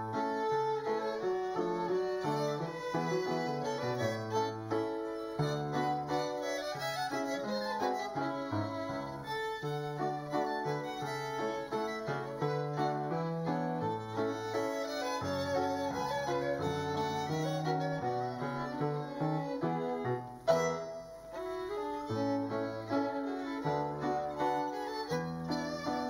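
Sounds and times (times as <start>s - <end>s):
violins and piano playing: 0.0s - 26.0s.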